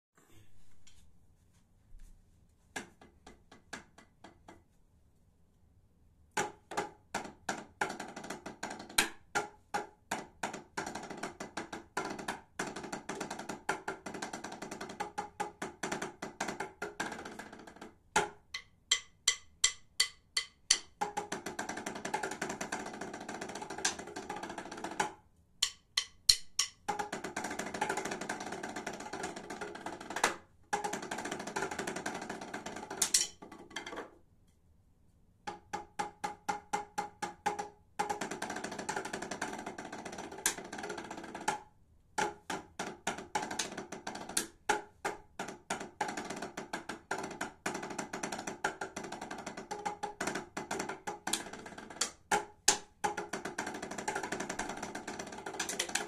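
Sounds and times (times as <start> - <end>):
drumsticks on practice pads: 6.4 - 34.0, 35.5 - 56.0.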